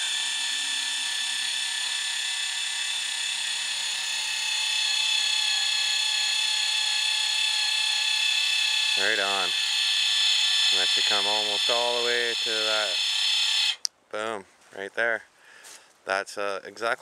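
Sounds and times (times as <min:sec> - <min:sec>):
electric actuator motor whine: 0:00.0 - 0:13.9.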